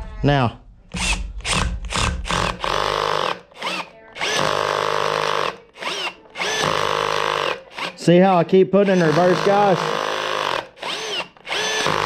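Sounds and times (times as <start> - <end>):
cordless drill whining: 0.9 - 12.0.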